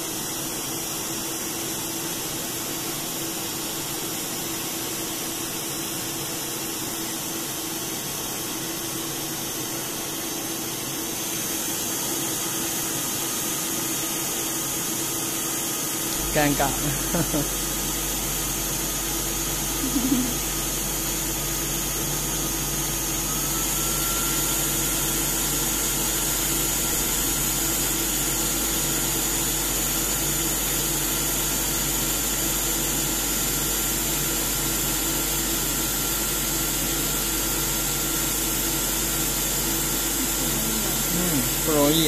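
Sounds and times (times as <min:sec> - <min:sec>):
air cooling machine humming: 0:00.0 - 0:42.0.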